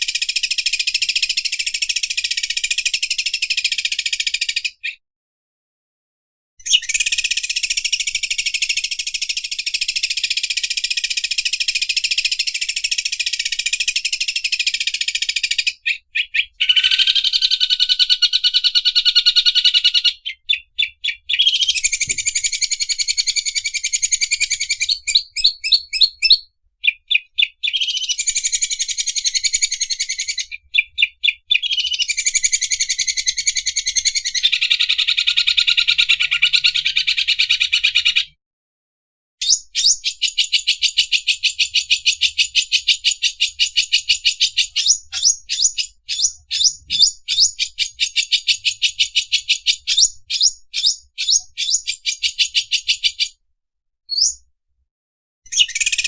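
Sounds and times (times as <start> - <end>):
bird singing rattling trills: 6.6 - 37.0, 39.5 - 53.4, 54.1 - 54.4, 55.5 - 56.0.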